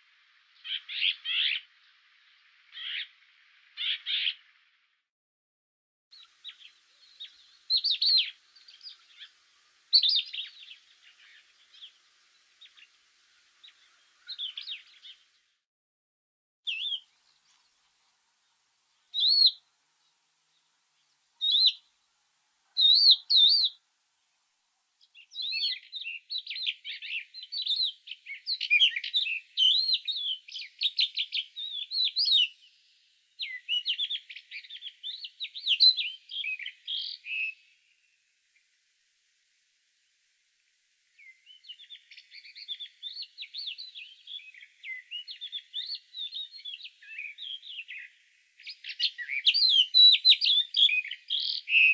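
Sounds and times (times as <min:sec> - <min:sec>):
songbirds chirping: 0:00.0 - 0:05.0, 0:06.1 - 0:15.6, 0:16.7 - 0:51.9.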